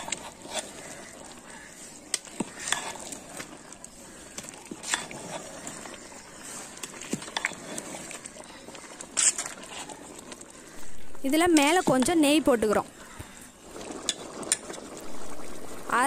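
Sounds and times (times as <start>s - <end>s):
water bubbling and popping in pot: 0.0s - 16.0s.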